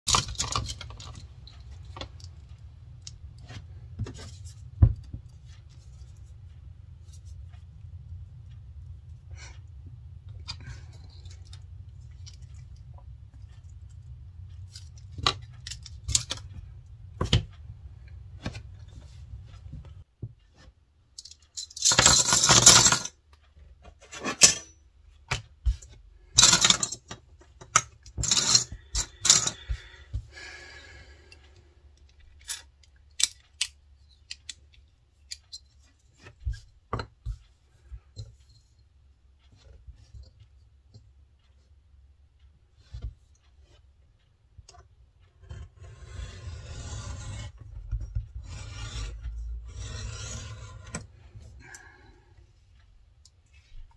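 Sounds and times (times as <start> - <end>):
low steady hum: 0.1 - 53.9.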